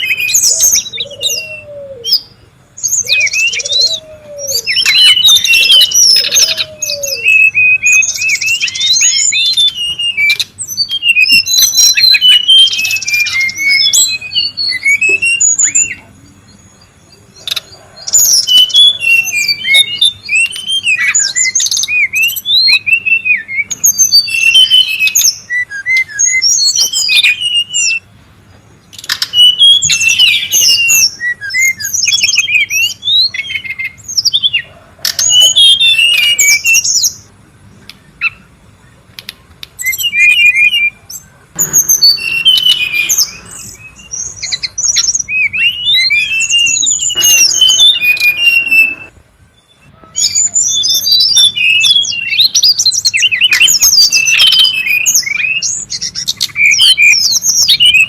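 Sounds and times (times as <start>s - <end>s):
bird chirping and whistling: 0.0s - 28.1s, 28.9s - 37.3s, 37.9s - 38.6s, 39.7s - 58.0s.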